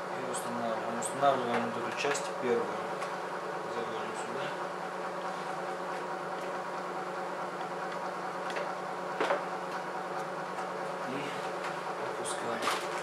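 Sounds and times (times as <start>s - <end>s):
electric hum: 0.0s - 13.0s.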